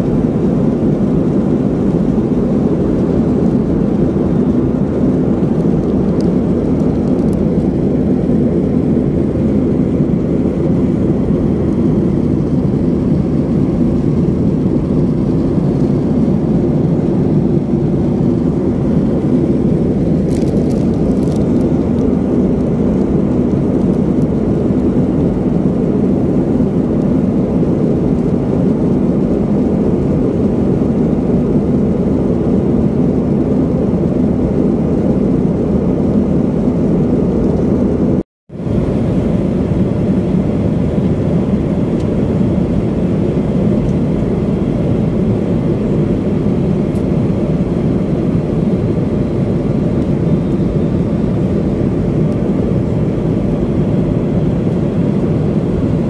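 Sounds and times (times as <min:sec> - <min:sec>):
jet airliner cabin noise: 0:00.0 - 0:56.0.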